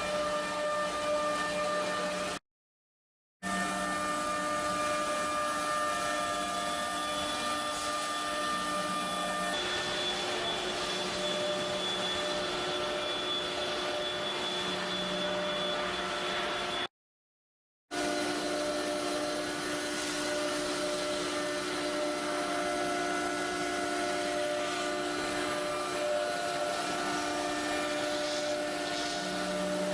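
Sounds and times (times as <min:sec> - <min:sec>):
router spindle whine: 0:03.5 - 0:16.9, 0:18.0 - 0:29.9.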